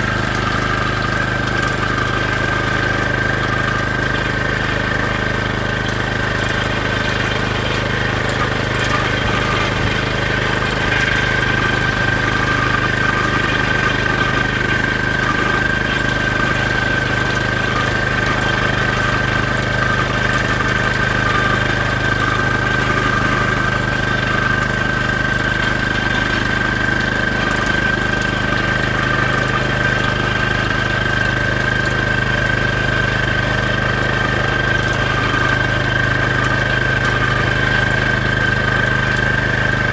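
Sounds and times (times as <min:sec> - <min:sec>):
constant high whine: 0:00.0 - 0:39.9
vehicle engine hum: 0:00.0 - 0:39.9.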